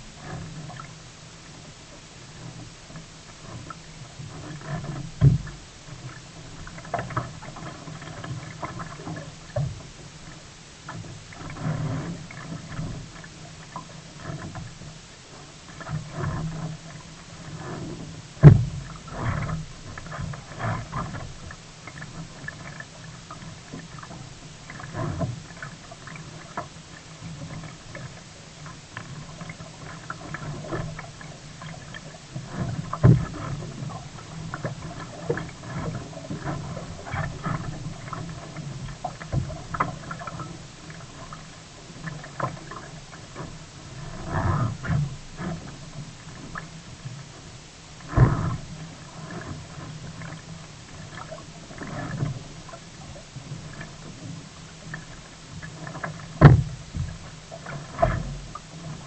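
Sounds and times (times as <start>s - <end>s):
low steady rumble: 0.0s - 59.0s
paddle splashes: 0.0s - 59.0s
water slapping at hull: 0.0s - 59.0s.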